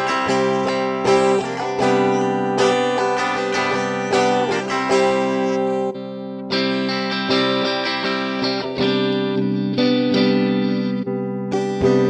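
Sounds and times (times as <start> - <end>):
clean electric guitar chords: 0.0 - 12.0.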